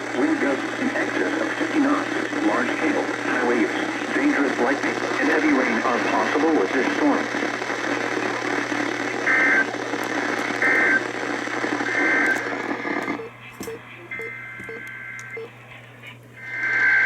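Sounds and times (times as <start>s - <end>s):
radio hiss: 0.0s - 17.0s.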